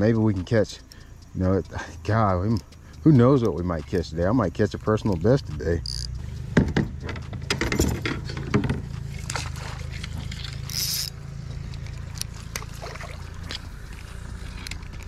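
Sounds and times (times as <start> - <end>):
fishing reel clicks and knocks: 0.0 - 9.4, 10.0 - 12.8, 13.4 - 15.0
steady low rumble: 0.0 - 15.0.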